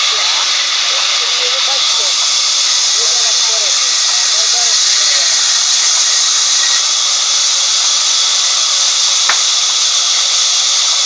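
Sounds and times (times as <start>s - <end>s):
band saw cutting timber: 0.0s - 11.0s.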